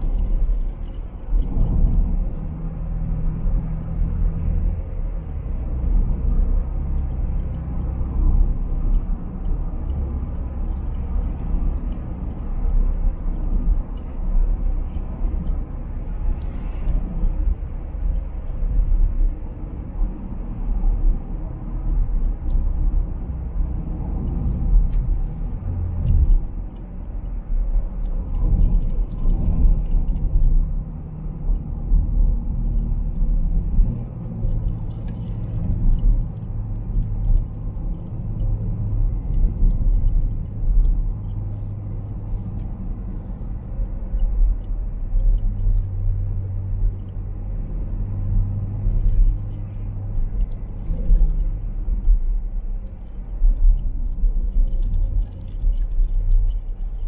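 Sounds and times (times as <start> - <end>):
car engine drone: 0.0 - 57.0
road noise inside car: 0.0 - 57.0.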